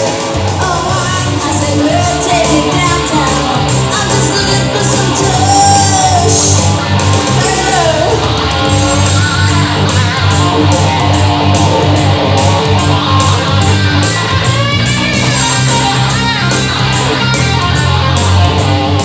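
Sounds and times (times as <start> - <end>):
bass line: 0.0 - 19.0
drum beat: 0.0 - 19.0
electric guitar: 0.0 - 19.0.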